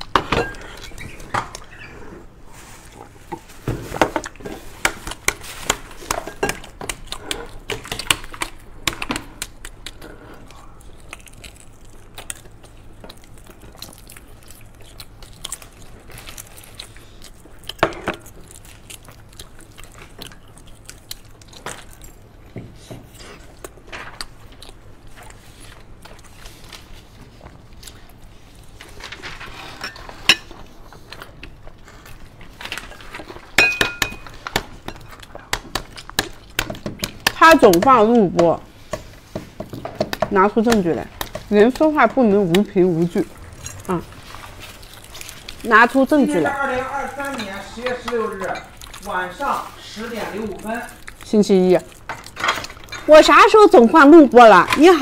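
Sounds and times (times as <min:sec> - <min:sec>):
biting and chewing: 0:03.3 - 0:38.0, 0:38.8 - 0:53.9.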